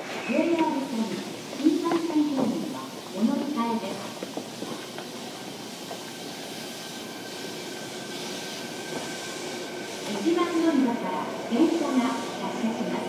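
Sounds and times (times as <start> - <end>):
train wheels rolling on track: 0.0 - 13.0.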